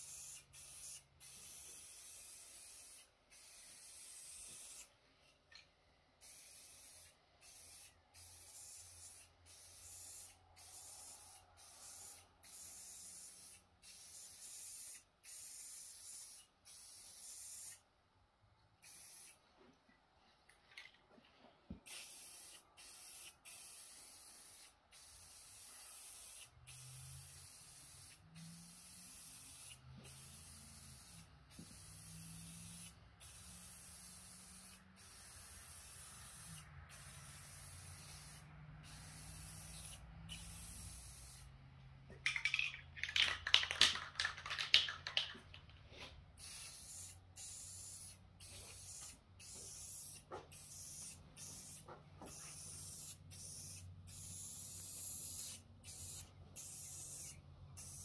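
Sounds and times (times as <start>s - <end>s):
spray paint can hissing: 0.0s - 4.9s, 6.2s - 17.8s, 18.8s - 19.4s, 21.8s - 41.5s, 42.2s - 58.0s.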